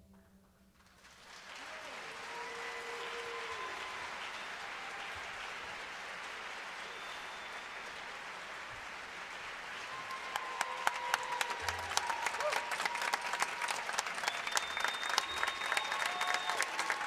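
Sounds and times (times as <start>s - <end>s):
audience applause: 0.8s - 17.0s
whistles and cheers: 1.2s - 17.0s.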